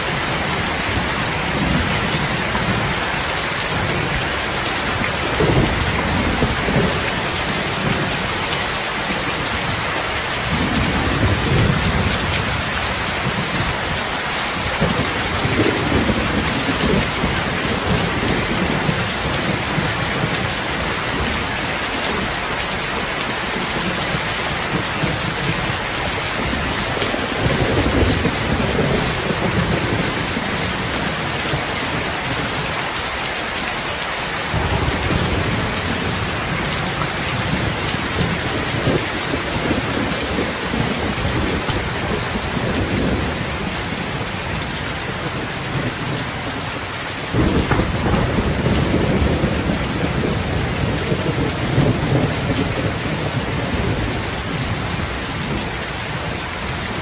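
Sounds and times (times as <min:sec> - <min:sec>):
rolling thunder: 0:00.0 - 0:08.6, 0:10.4 - 0:32.5, 0:34.5 - 0:46.6, 0:47.3 - 0:57.0
heavy rain falling: 0:00.0 - 0:57.0.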